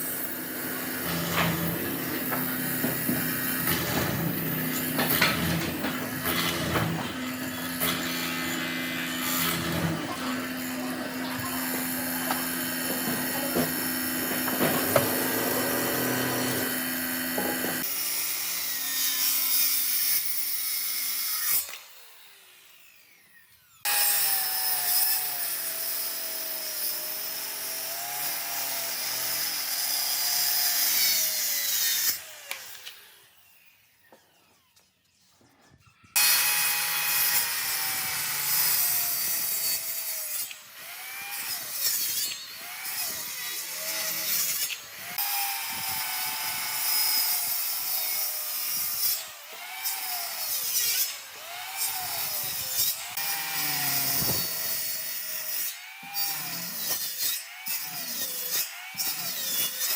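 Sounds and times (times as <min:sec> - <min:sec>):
power tool cutting wood: 0:00.0 - 0:59.9.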